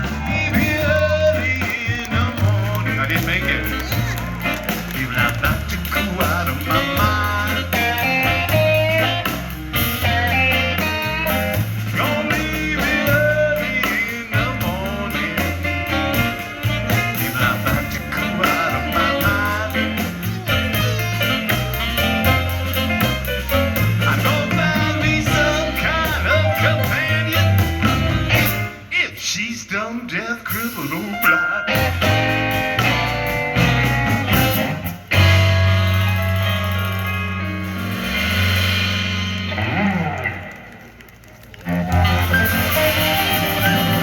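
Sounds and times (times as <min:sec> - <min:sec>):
blues band playing: 0:00.0 - 0:44.0.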